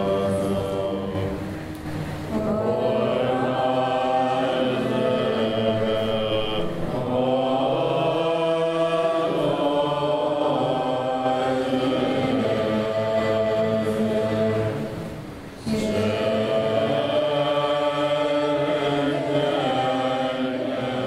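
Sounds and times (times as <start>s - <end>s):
monks chanting long held notes: 0.0s - 21.0s.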